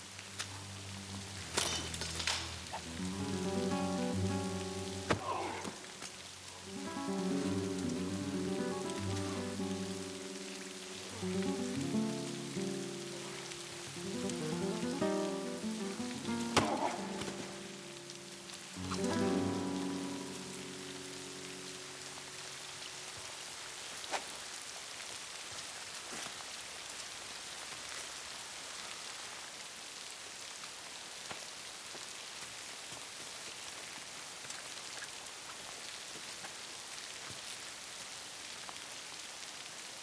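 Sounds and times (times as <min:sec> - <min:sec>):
rain on stone: 0:00.0 - 0:40.0.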